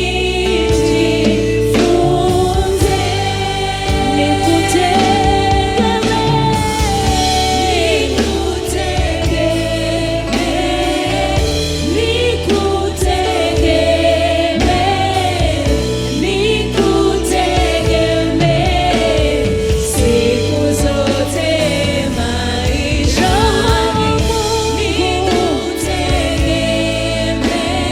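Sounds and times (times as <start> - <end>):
band backing: 0.0 - 27.9
choir singing: 0.0 - 27.9.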